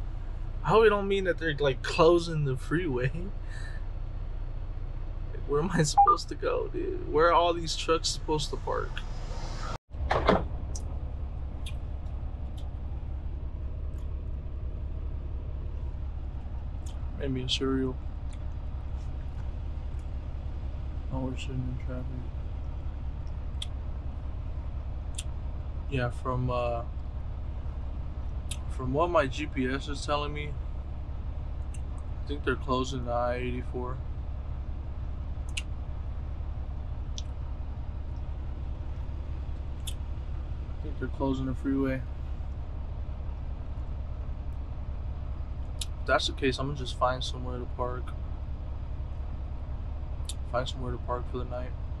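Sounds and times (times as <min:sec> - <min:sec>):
truck engine idling: 0:00.0 - 0:52.0.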